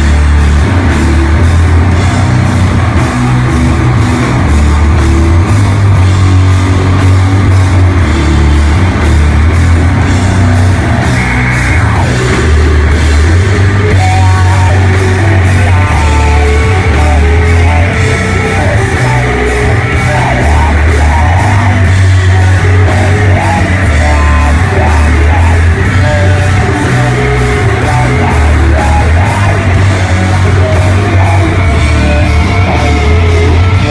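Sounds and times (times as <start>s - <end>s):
heavy metal band playing: 0.0s - 33.9s.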